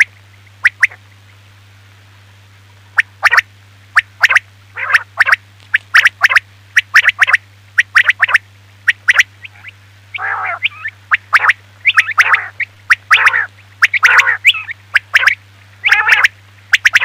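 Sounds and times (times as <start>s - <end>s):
quail calling: 0.0s - 1.0s, 3.0s - 17.0s
steady low hum: 0.0s - 17.0s.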